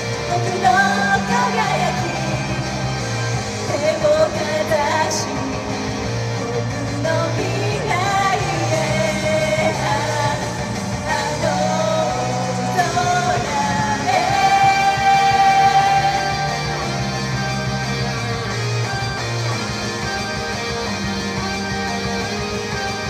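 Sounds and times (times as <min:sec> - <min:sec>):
backing track: 0:00.0 - 0:23.0
group singing rock pop song: 0:00.0 - 0:23.0.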